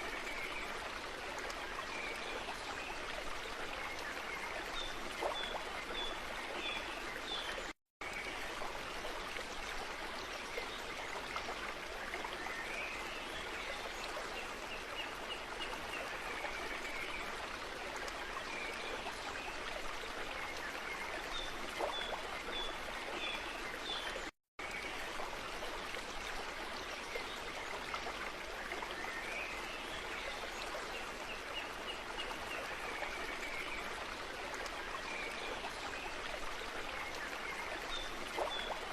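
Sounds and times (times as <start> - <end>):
running stream water: 0.0 - 38.9.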